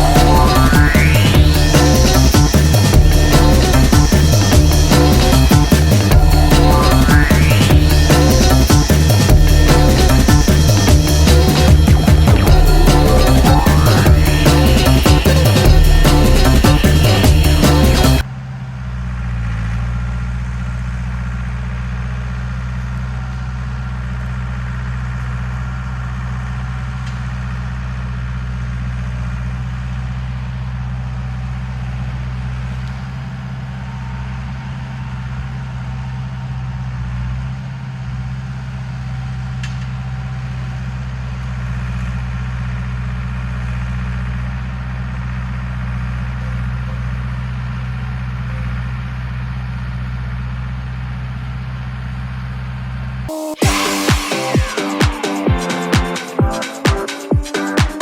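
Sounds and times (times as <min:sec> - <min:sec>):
bulldozer diesel engine droning: 0:00.0 - 0:54.6.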